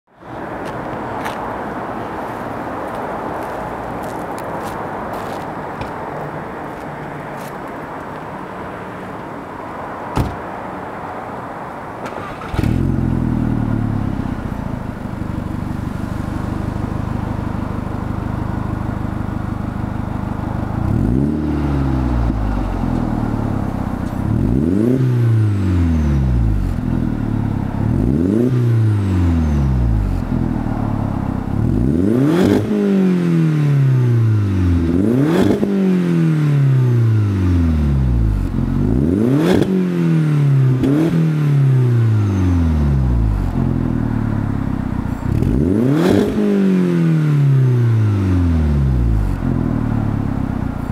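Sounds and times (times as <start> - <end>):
car engine idling and revving: 0.1 - 50.9.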